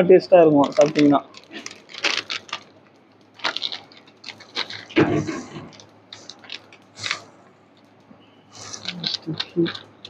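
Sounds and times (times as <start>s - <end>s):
plastic packet crinkling: 0.4s - 7.3s, 8.6s - 10.0s.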